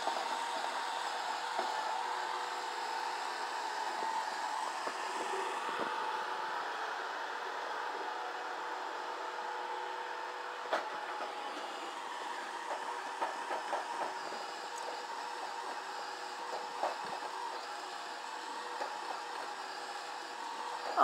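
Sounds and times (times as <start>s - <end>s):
robot vacuum motor hum: 0.0s - 21.0s.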